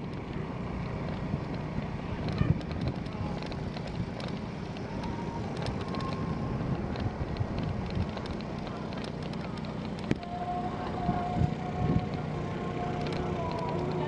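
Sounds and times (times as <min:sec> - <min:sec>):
bike clicks and rattles: 0:00.0 - 0:14.0
low rolling rumble: 0:00.0 - 0:14.0
wind on microphone: 0:01.0 - 0:14.0.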